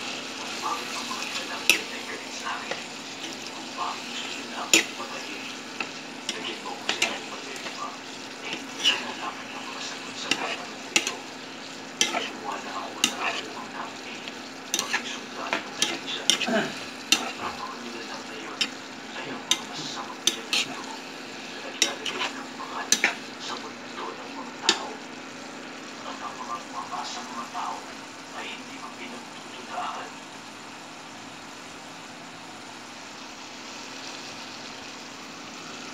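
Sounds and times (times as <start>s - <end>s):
food sizzling in a pan: 0.0s - 35.9s.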